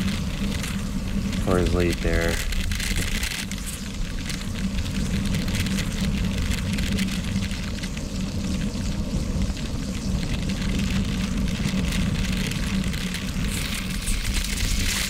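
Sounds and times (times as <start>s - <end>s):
bike tyres crackling over gravel: 0.0s - 15.0s
wind rushing over camera: 0.0s - 15.0s.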